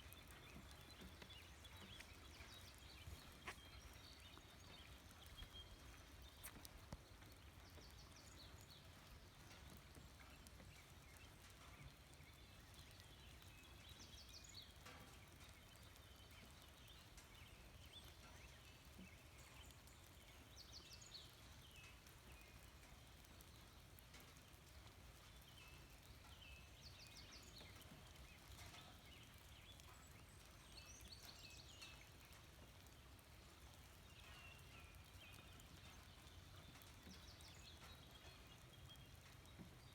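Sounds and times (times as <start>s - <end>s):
faint bird chirps and trills: 0.0s - 39.9s.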